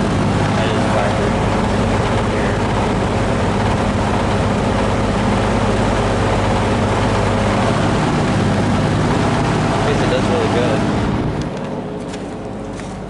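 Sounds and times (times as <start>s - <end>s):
box fan running: 0.0s - 13.0s
fan grille vibrating: 0.0s - 13.0s.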